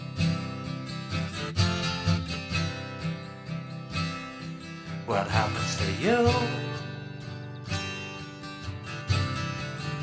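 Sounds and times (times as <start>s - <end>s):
bass: 0.0s - 10.0s
strummed acoustic guitar: 0.0s - 10.0s.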